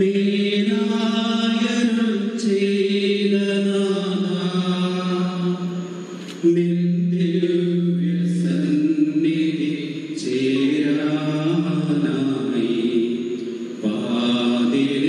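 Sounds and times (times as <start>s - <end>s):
slow funeral chant: 0.0s - 15.0s.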